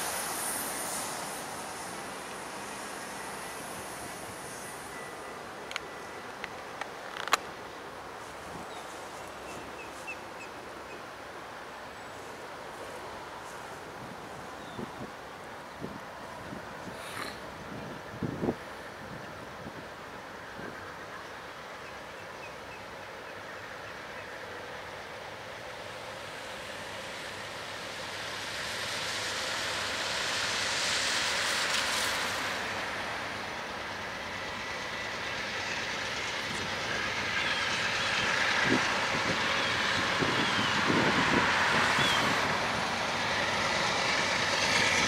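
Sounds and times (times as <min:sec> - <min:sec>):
diesel locomotive engine: 0:00.0 - 0:45.0
train wheels on rails: 0:00.0 - 0:45.0.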